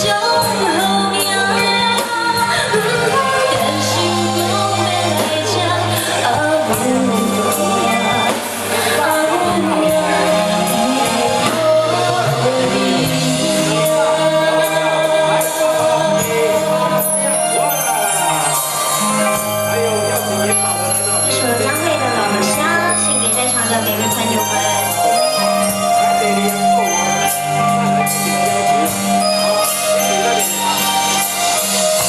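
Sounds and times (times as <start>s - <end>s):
woman singing pop song: 0.0s - 27.3s
live band music: 0.0s - 32.0s
steady bass line: 0.0s - 32.0s.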